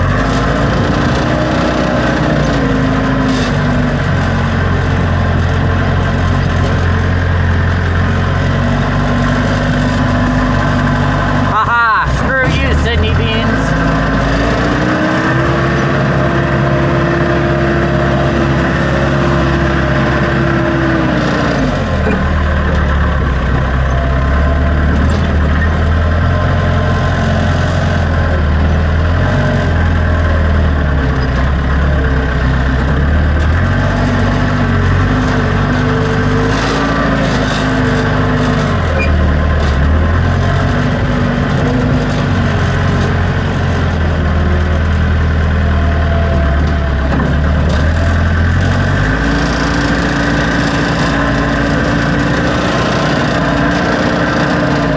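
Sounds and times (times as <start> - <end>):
backhoe diesel engine: 0.0 - 54.9.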